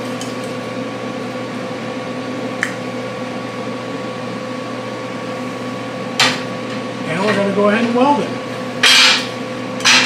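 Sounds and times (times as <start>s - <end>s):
electric fan hum: 0.0s - 10.0s.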